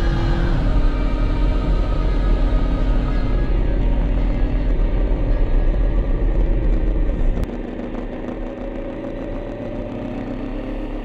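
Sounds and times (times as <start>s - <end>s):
low rumble of wind and road: 0.0s - 11.0s
motorcycle engine running: 0.0s - 11.0s.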